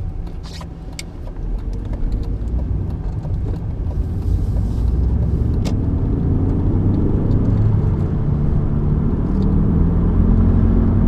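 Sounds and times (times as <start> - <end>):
car engine running: 0.0 - 11.0
low rumbling drone: 0.0 - 11.0.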